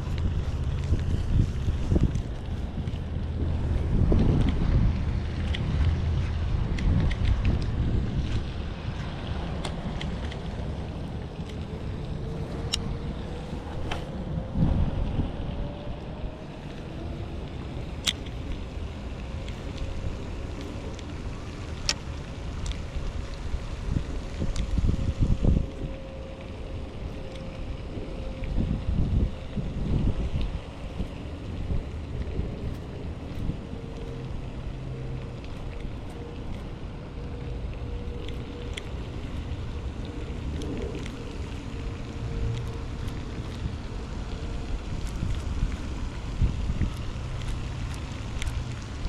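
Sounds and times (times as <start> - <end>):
wind rumbling on microphone: 0.0 - 49.0.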